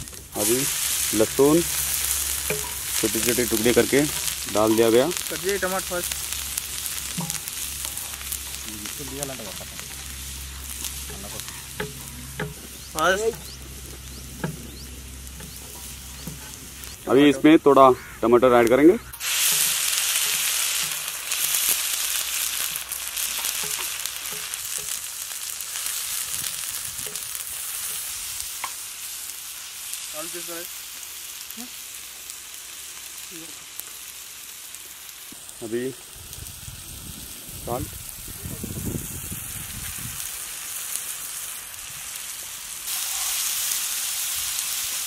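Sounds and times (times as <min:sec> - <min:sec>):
tomatoes sizzling in hot oil: 0:00.0 - 0:45.0.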